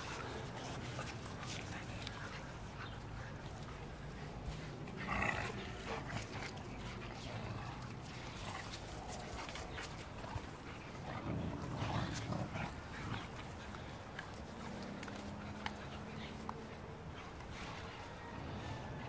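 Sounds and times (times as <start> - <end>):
dogs growling: 0.0 - 18.9.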